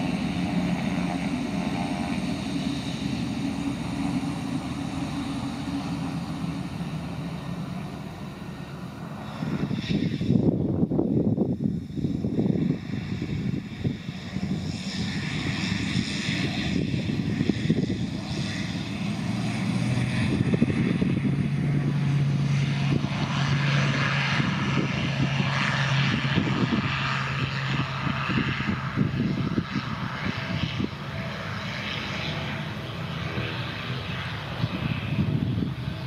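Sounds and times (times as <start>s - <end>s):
low propeller hum: 0.0s - 36.0s
turboprop engine at takeoff power: 0.0s - 36.0s.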